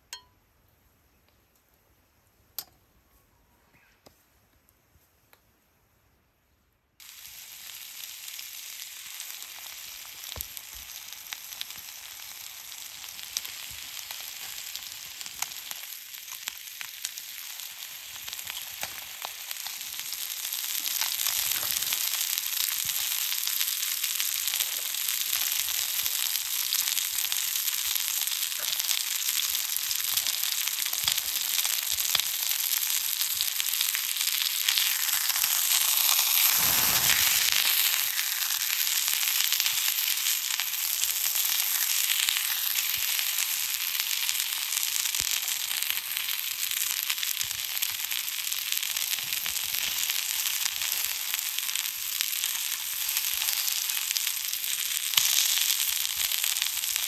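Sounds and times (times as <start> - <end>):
food sizzling in a pan: 7.0 - 57.0.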